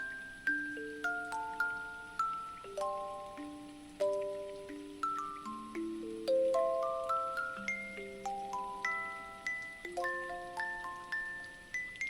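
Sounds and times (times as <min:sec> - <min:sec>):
music box lullaby: 0:00.0 - 0:12.0.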